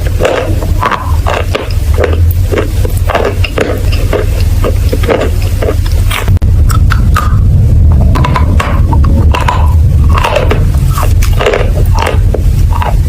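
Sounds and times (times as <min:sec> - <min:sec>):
material crunching and crackling: 0:00.0 - 0:07.2, 0:08.1 - 0:13.0
steady low rumble: 0:00.0 - 0:13.0.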